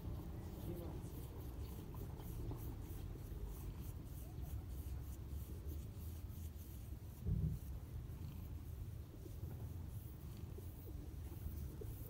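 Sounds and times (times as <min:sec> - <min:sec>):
cat purring: 0:00.0 - 0:12.0
fingers scratching fur: 0:00.0 - 0:12.0.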